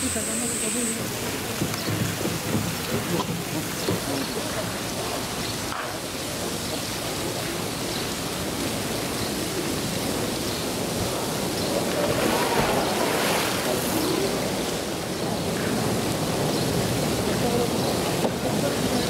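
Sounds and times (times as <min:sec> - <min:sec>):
faint voices: 0:00.0 - 0:19.0
water rushing: 0:00.0 - 0:19.0.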